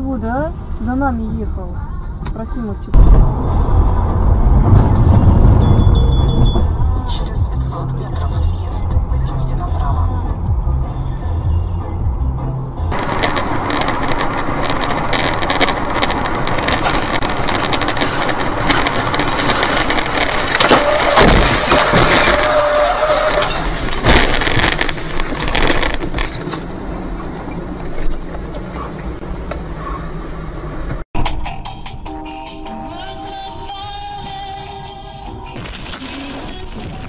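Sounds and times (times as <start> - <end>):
road and wind noise: 0.0 - 32.7, 33.3 - 37.0.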